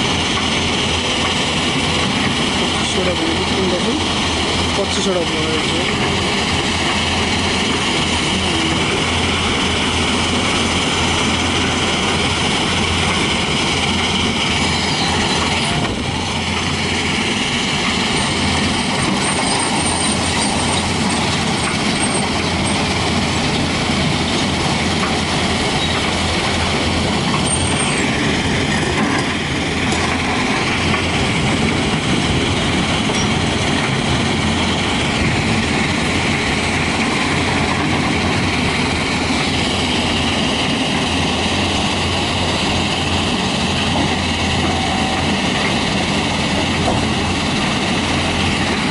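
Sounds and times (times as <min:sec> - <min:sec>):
diesel engine running: 0:00.0 - 0:48.9
steel tracks on gravel: 0:00.0 - 0:48.9.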